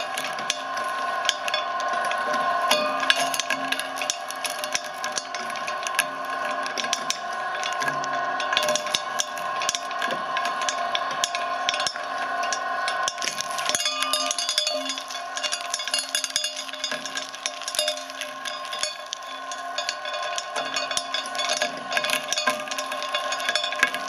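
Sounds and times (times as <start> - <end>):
hard candy cracking: 0.0 - 24.0.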